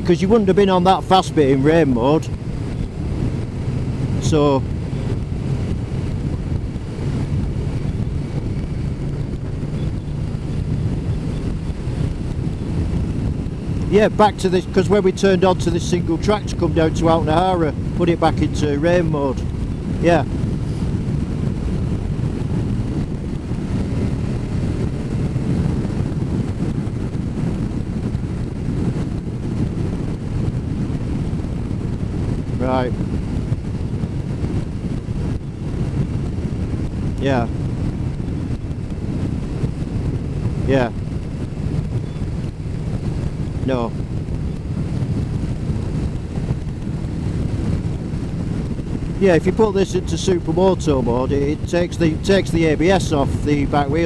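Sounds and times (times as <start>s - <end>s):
motorcycle engine drone: 0.0s - 54.0s
wind rushing over microphone: 0.0s - 54.0s.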